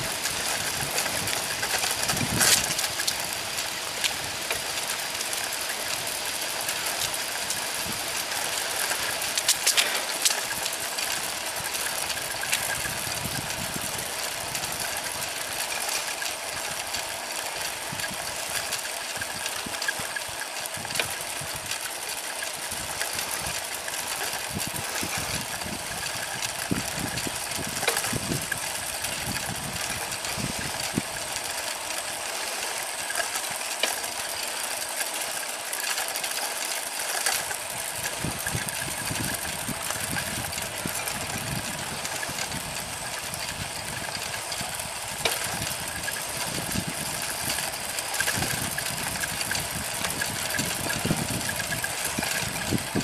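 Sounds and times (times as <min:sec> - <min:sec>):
bicycle rolling on asphalt: 0:00.0 - 0:53.0.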